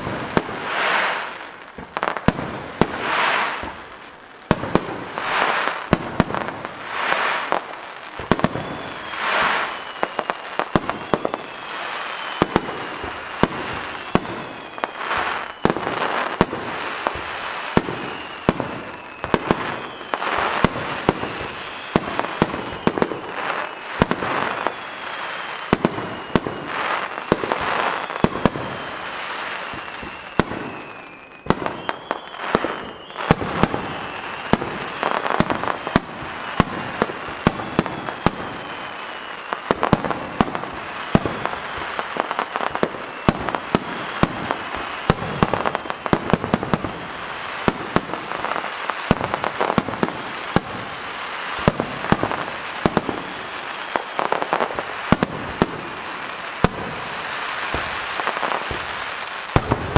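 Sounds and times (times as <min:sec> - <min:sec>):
fireworks bangs: 0:00.0 - 0:59.9
fireworks hiss: 0:00.0 - 0:59.9.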